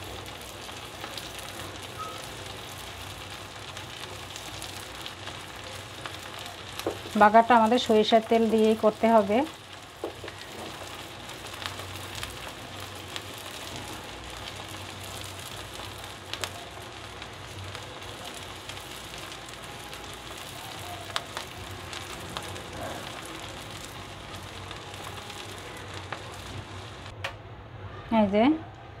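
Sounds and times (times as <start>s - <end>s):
oil sizzling in a pan: 0.0s - 27.1s.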